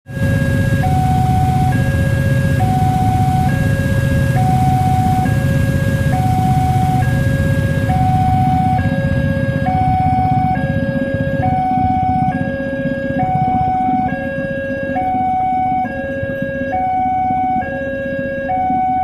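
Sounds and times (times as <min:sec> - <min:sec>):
steady low rumble: 0:00.1 - 0:19.0
two-tone level crossing siren: 0:00.1 - 0:19.0.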